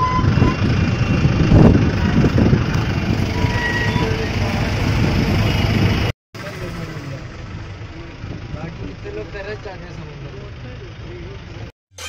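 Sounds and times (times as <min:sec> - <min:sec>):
engine and road rumble: 0:00.0 - 0:11.7.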